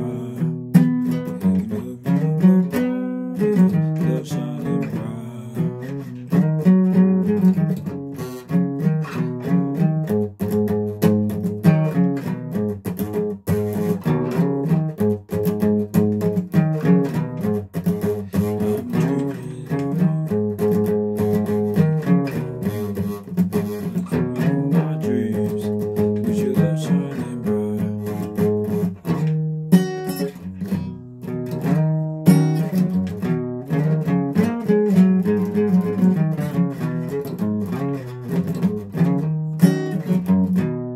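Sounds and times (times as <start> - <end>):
guitar picking and strumming: 0.0 - 40.9.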